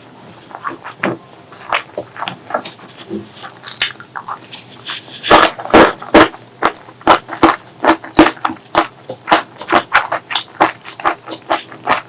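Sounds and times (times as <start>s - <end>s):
chewing and mouth smacking: 0.5s - 12.0s.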